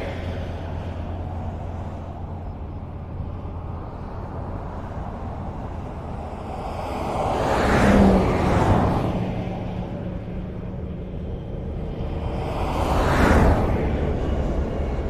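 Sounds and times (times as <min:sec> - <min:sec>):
highway traffic rumble: 0:00.0 - 0:15.0
vehicle passing close: 0:00.0 - 0:15.0.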